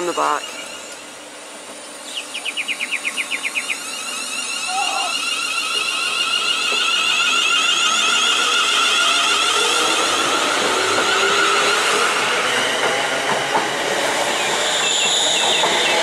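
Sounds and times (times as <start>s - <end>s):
electric train whine: 0.0s - 16.0s.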